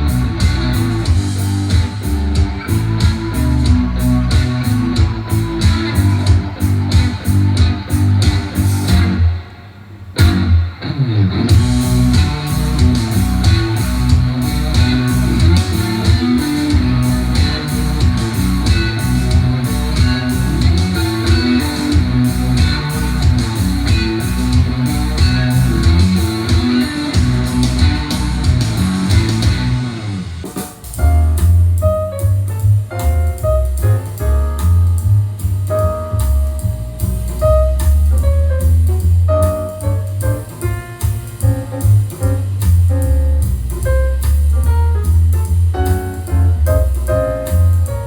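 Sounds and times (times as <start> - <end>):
guitar track with drums: 0.0 - 48.0
piano piece: 0.0 - 48.0.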